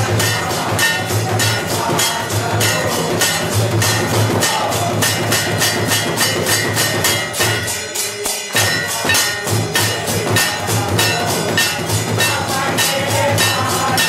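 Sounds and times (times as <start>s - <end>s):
brass bell ringing: 0.0s - 14.0s
percussion clattering: 0.0s - 14.0s.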